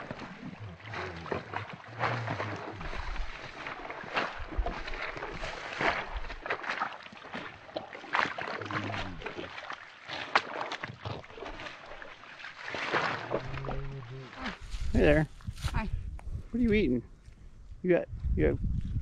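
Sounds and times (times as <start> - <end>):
footsteps splashing through water and mud: 0.0 - 15.9.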